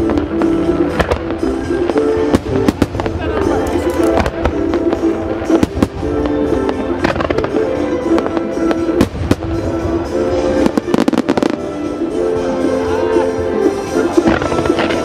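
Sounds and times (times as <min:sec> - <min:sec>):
music with held notes: 0:00.0 - 0:15.0.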